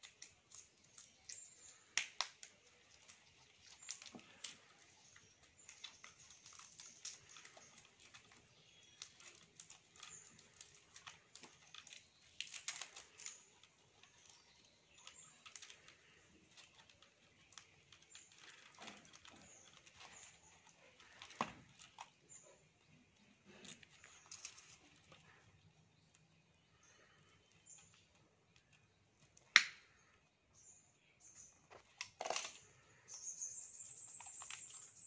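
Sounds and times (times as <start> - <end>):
clicks and scrapes of wire leads: 0.0 - 30.2, 31.4 - 35.0.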